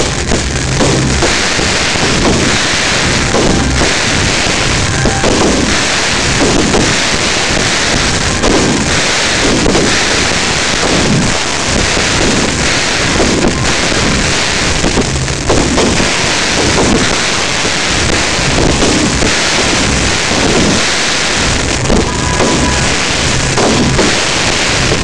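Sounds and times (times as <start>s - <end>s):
fireworks crackling hiss: 0.0s - 25.0s
fireworks dull bursts: 0.0s - 25.0s.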